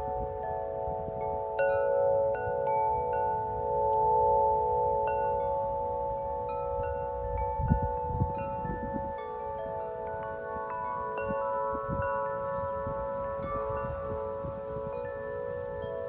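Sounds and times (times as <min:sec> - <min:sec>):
tubular wind chimes ringing: 0:00.0 - 0:16.0
wind gusts on microphone: 0:00.0 - 0:16.0.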